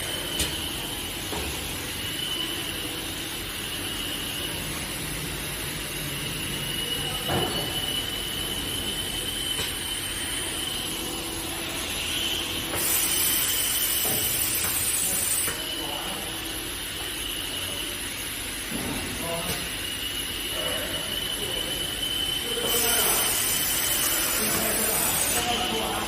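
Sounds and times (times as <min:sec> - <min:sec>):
welding machine high-pitched whine: 0:00.0 - 0:26.0.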